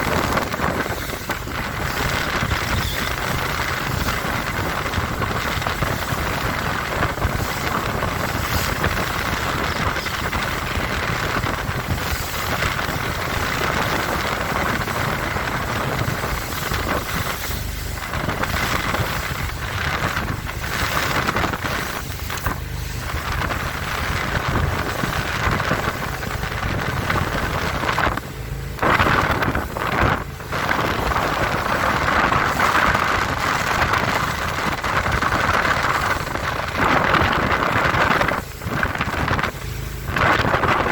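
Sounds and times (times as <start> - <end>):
powerboat engine: 0.0 - 40.9
water noise: 0.0 - 40.9
wind buffeting microphone: 0.0 - 40.9.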